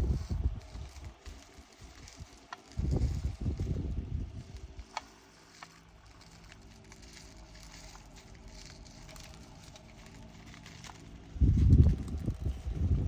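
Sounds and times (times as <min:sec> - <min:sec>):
handling rustle: 0:00.0 - 0:13.0
resin beads clicking and pattering: 0:00.0 - 0:13.0.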